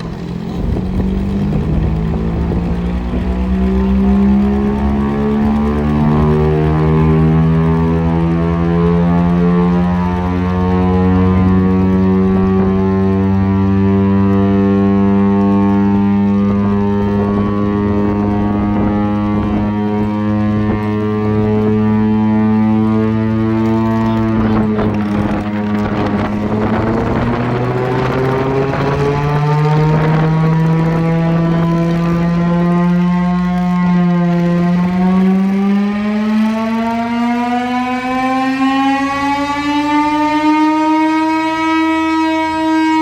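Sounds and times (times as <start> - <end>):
air raid siren loud low tone: 0.0 - 43.0.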